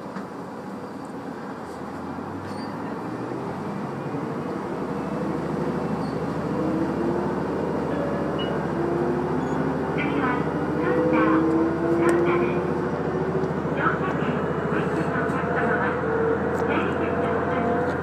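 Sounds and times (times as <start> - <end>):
diesel railcar engine drone: 0.0 - 18.0.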